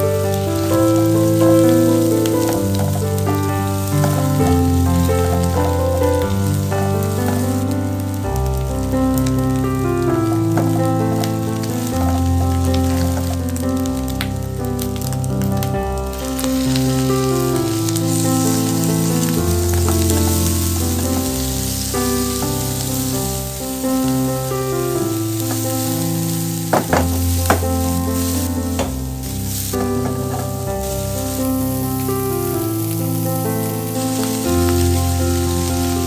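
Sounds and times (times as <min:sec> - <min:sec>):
background music: 0:00.0 - 0:36.0
pork sizzling in hot oil: 0:00.0 - 0:36.0.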